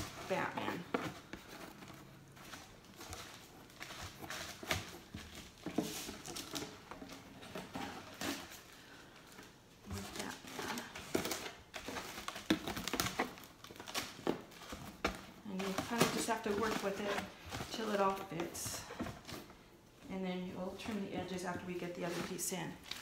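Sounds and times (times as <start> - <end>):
tablecloth crinkling and rustling: 0.0 - 23.0.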